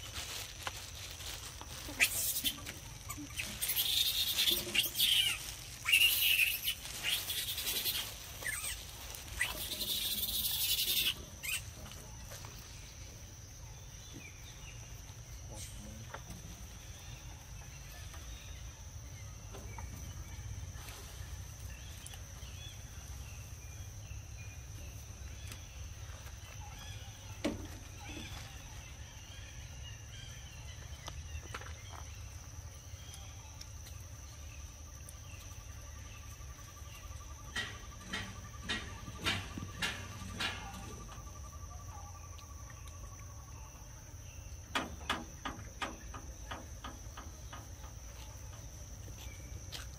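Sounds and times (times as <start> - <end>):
cricket-like trill: 0.0 - 49.9.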